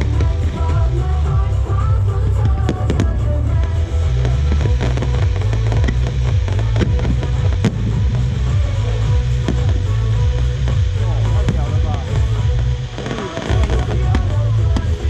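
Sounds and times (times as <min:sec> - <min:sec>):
fireworks bangs and crackles: 0:00.0 - 0:15.0
loud music with heavy bass: 0:00.0 - 0:15.0.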